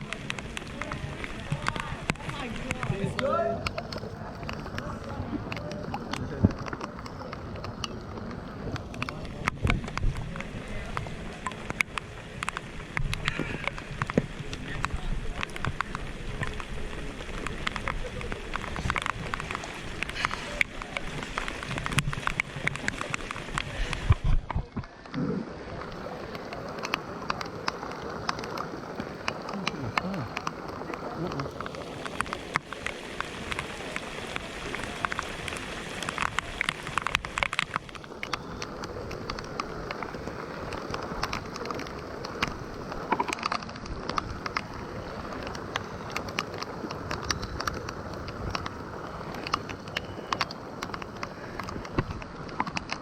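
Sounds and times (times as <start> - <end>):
faint indistinct voices: 0.0 - 52.7
rain pattering: 0.0 - 53.0.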